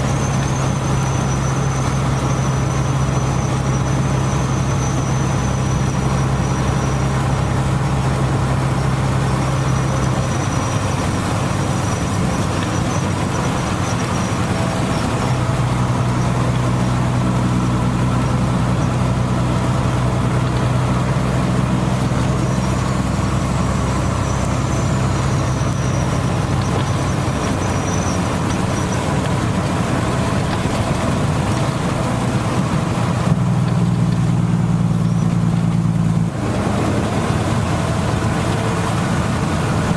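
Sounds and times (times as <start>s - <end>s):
steady rain falling: 0.0s - 39.9s
vehicle engine idling: 0.0s - 39.9s.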